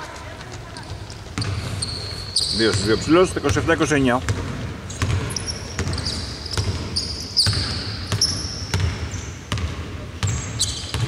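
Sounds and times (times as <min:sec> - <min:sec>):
sneakers squeaking on floor: 0:00.0 - 0:11.0
basketball bouncing: 0:00.3 - 0:11.0.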